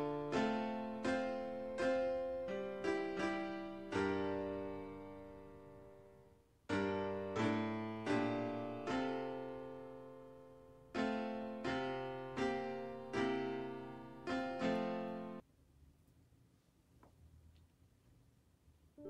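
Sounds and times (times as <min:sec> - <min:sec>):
slow piano chords: 0:00.0 - 0:15.4.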